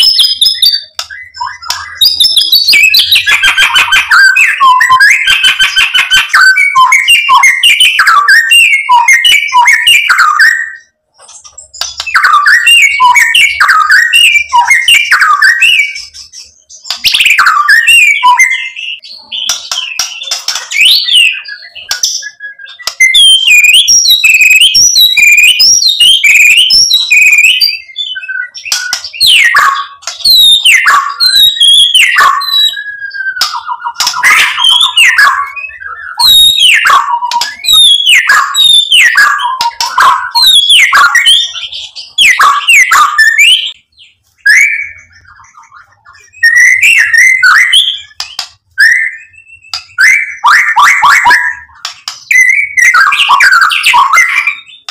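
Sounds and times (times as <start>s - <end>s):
songbird singing varied song: 0.0s - 54.9s.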